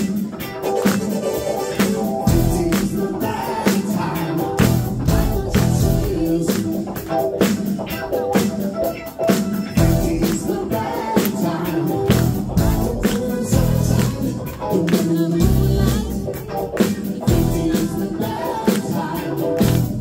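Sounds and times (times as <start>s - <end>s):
person singing: 0.0s - 7.5s, 9.4s - 20.0s
live band music: 0.0s - 20.0s
steady drum beat: 0.0s - 20.0s.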